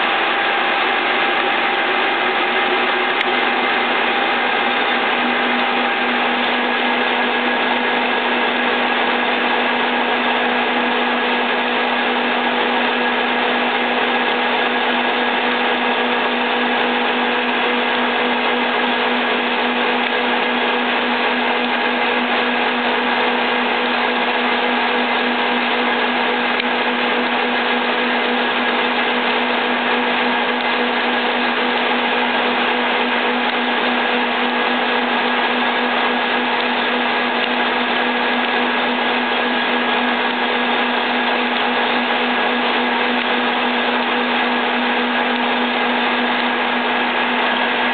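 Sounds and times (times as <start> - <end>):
boring machine droning: 0.0 - 47.9.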